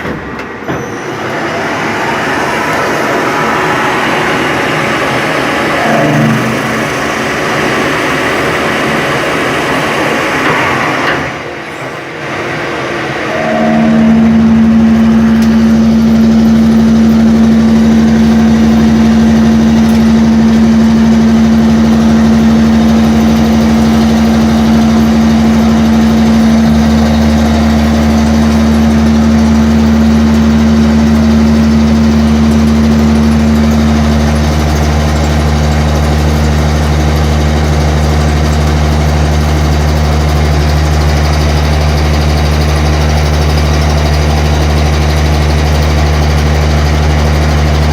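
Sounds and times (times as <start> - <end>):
lathe machining: 0.0 - 47.9
loud steady machine hum: 0.0 - 47.9.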